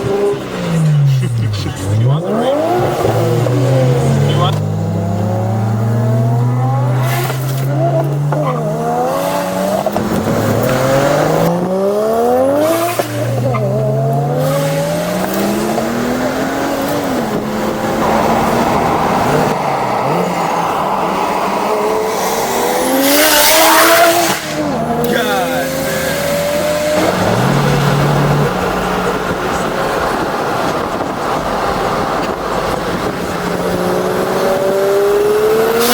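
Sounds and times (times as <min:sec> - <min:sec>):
car engine accelerating: 0:00.0 - 0:35.9.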